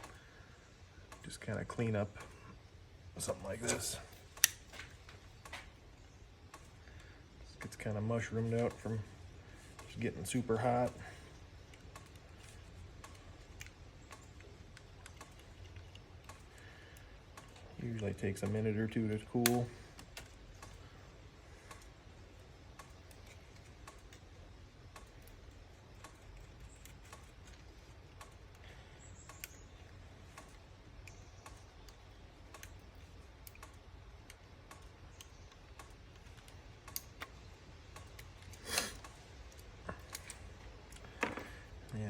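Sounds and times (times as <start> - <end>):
light clicks and taps of tools: 0.0 - 0.2, 1.0 - 2.6, 3.2 - 42.0.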